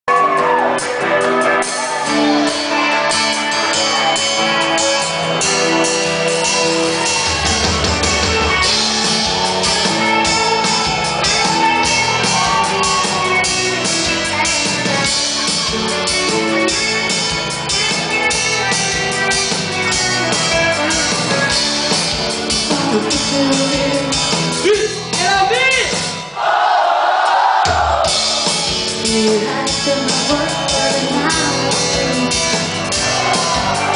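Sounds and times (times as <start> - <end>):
bass: 0.0 - 26.4, 27.6 - 33.9
live band playing: 0.1 - 26.4, 27.6 - 33.9
drums: 0.1 - 33.9
person singing: 0.2 - 25.0, 28.8 - 33.9.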